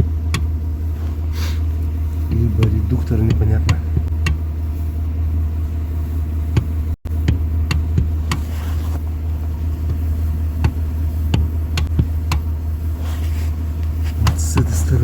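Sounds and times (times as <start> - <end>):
drivetrain humming: 0.0 - 15.0.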